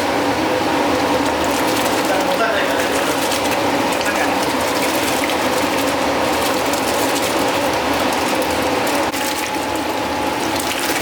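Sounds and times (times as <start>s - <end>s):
machine motor running: 0.0s - 11.0s.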